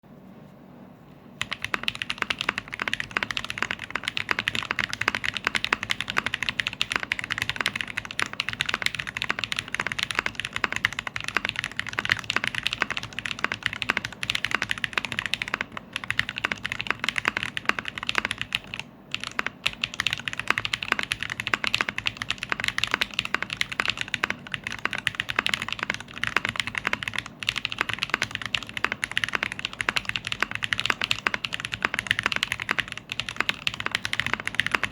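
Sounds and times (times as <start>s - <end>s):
keyboard keys clacking: 1.4s - 34.9s.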